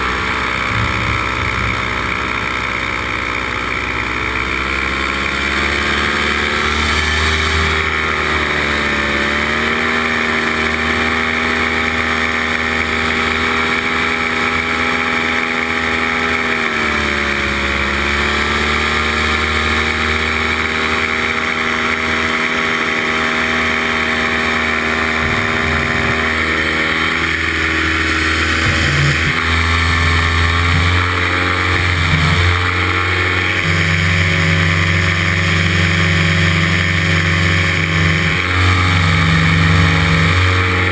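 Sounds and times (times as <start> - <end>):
paramotor engine and propeller: 0.0 - 40.9.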